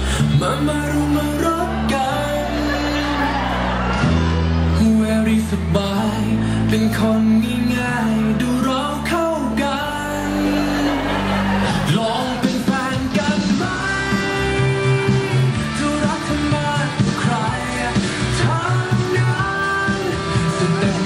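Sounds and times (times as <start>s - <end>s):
pop song over loudspeakers: 0.0s - 21.0s.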